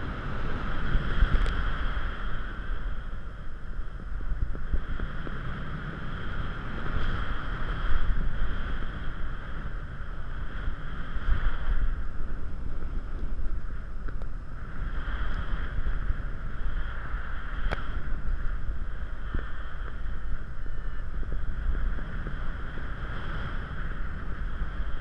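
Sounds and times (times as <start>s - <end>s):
wind buffeting camera: 0.0s - 25.0s.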